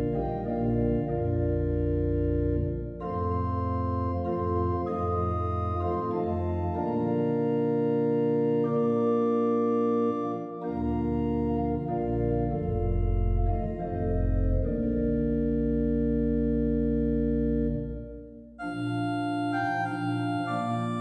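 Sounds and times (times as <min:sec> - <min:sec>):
organ playing held chords: 0:00.0 - 0:21.0.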